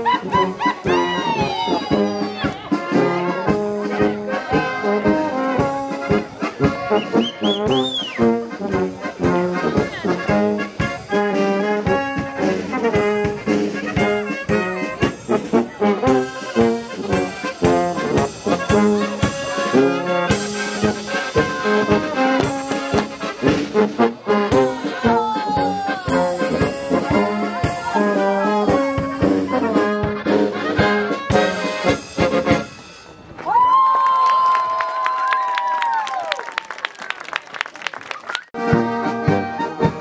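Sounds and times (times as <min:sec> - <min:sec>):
brass band playing dance tune: 0:00.0 - 0:33.3, 0:38.6 - 0:40.0.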